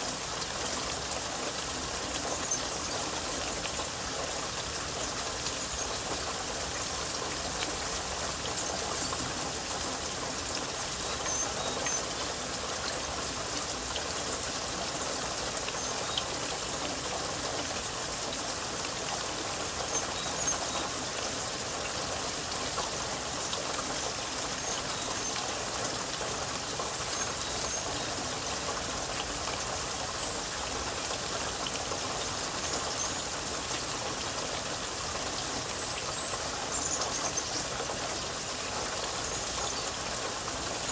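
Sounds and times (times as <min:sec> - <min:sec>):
drips and patter: 0:00.0 - 0:40.9
steady rain falling: 0:00.0 - 0:40.9.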